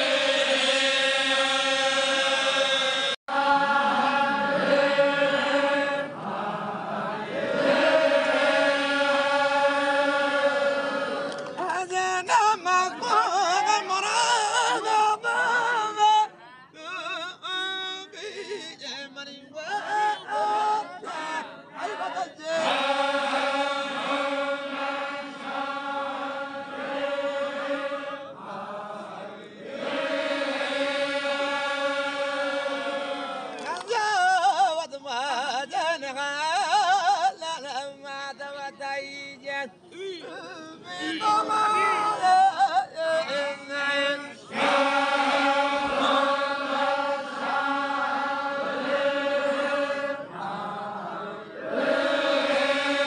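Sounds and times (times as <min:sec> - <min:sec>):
voices chanting devotional song: 0:00.0 - 0:53.0.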